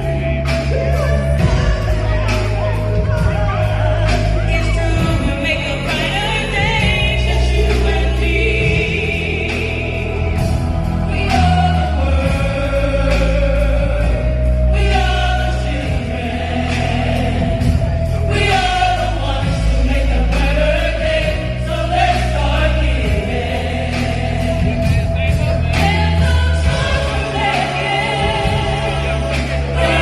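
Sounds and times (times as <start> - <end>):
choir singing gospel music: 0.0 - 30.0
steady bass accompaniment: 0.0 - 30.0.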